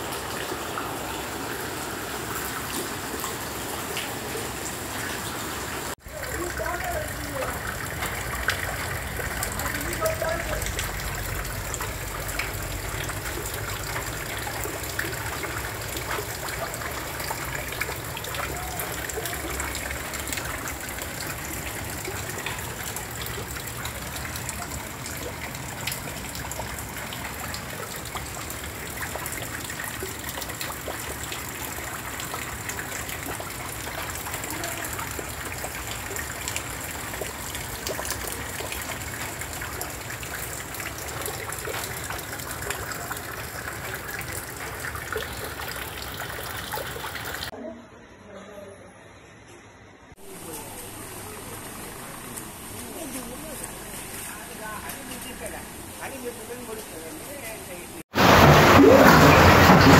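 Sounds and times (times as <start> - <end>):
floodwater rushing: 0.0 - 47.6, 58.0 - 59.9.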